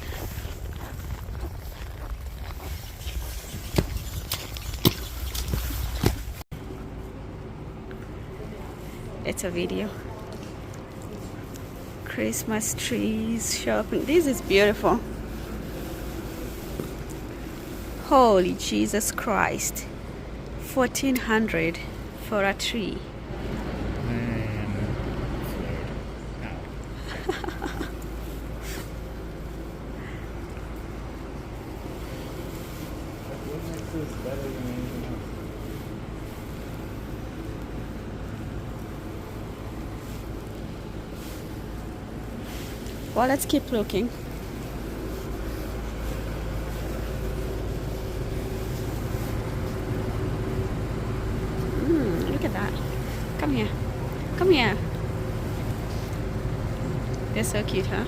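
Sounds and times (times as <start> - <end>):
low hum: 0.0 - 58.0
low indoor rumble: 0.0 - 58.0.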